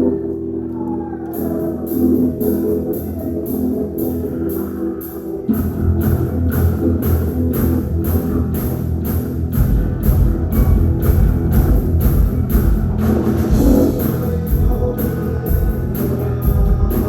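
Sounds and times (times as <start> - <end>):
rock band playing: 1.4 - 17.0.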